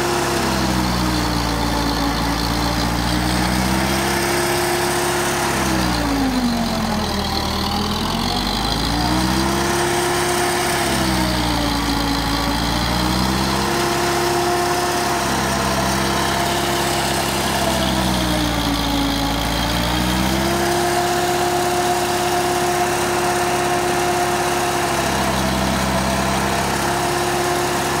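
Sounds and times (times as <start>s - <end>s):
forage chopper shredding stalks: 0.0s - 28.0s
tractor diesel engine: 0.0s - 28.0s.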